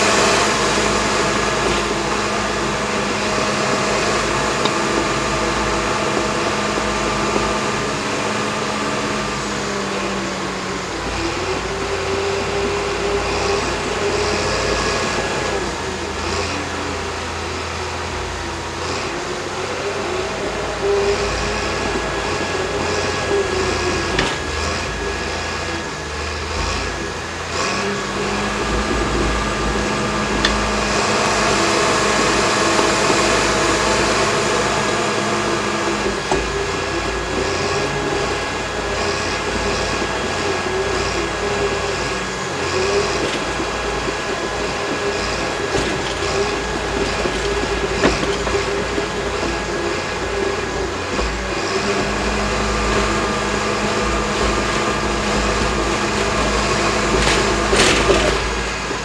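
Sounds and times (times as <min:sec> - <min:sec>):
blade pushing dirt: 0:00.0 - 0:59.0
bulldozer diesel engine running: 0:00.0 - 0:59.0.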